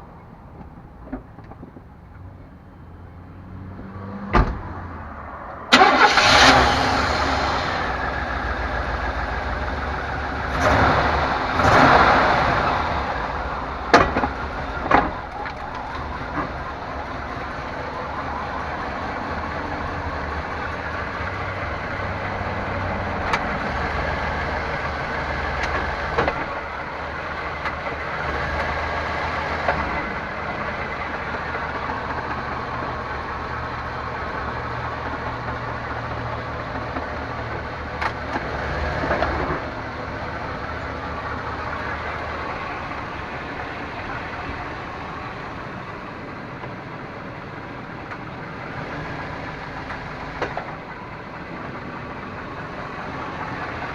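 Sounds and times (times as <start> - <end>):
engine idling: 5.7 - 53.9.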